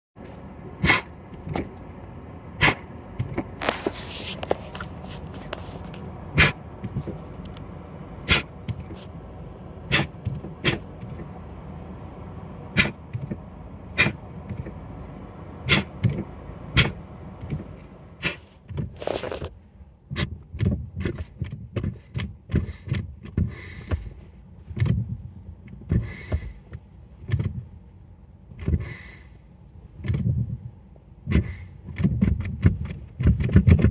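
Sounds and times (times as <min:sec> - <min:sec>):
brake pedal squishing: 0:00.2 - 0:11.6, 0:12.6 - 0:33.9
car engine running: 0:00.2 - 0:33.9.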